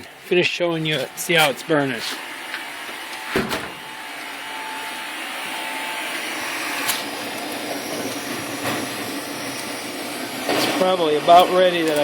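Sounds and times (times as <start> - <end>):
hair dryer blowing: 1.0 - 12.0.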